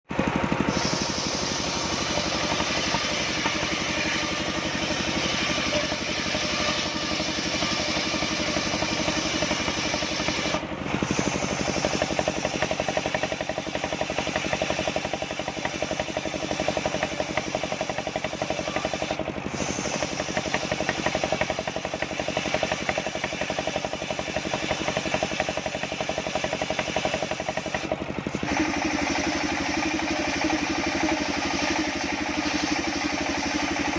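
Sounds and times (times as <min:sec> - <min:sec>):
sawmill engine chugging: 0:00.0 - 0:33.9.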